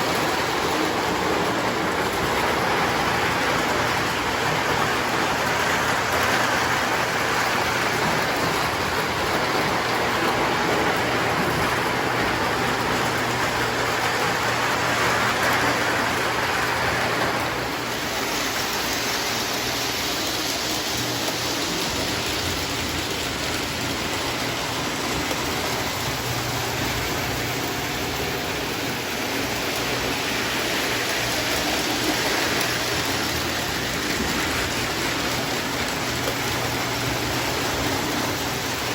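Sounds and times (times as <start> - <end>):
toy train whirring on track: 0.0 - 38.9.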